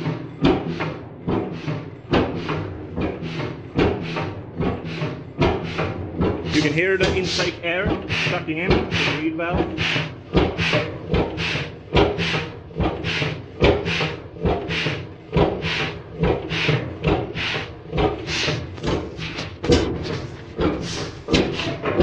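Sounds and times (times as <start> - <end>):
engine knock: 0.0 - 22.0.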